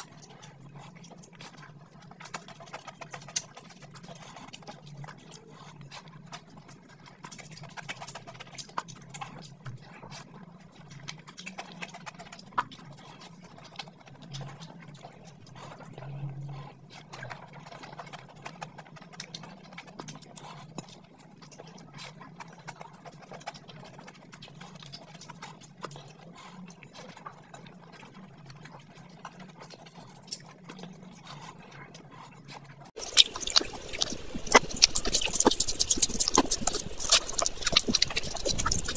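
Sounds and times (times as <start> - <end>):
wet chewing and lip-smacking: 0.0 - 38.9.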